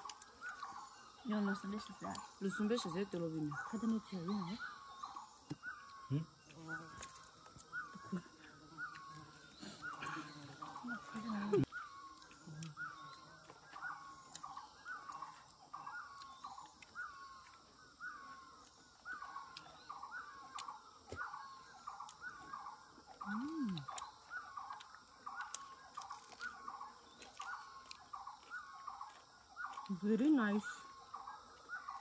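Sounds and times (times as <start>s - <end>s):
bird calling: 0.0s - 32.0s.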